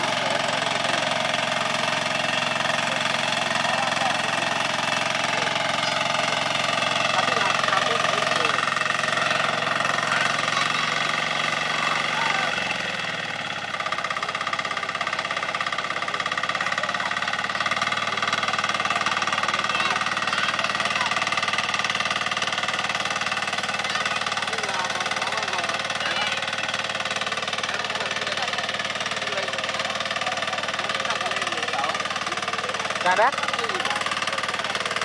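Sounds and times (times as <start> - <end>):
power weeder engine running: 0.0 - 35.0.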